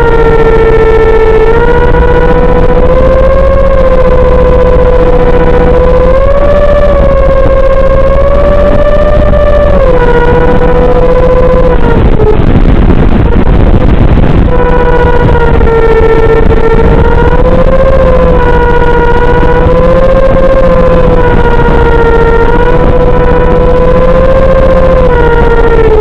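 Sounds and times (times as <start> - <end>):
electric motor propeller whine: 0.0 - 26.0
wind rush: 0.0 - 26.0.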